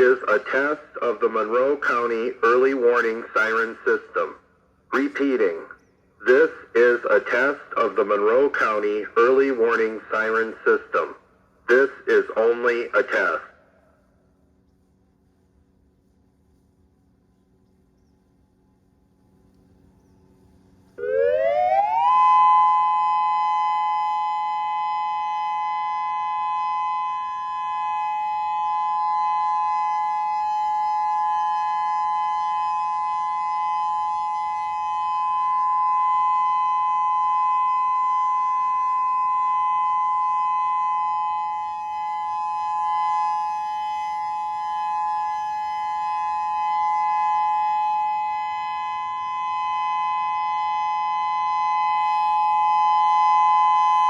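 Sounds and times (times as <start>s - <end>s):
electronic warning siren: 0.0s - 13.6s, 20.1s - 54.0s.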